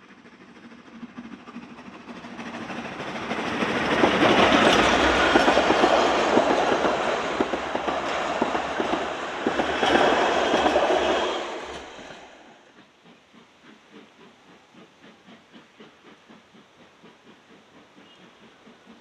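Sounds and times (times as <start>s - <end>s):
steam train passing: 0.0s - 19.0s
wheels clicking over rail joints: 0.0s - 19.0s.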